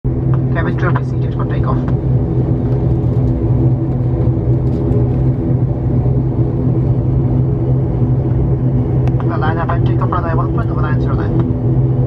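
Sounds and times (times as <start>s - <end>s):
low rumble: 0.0s - 12.0s
airliner cabin hum: 0.1s - 12.0s.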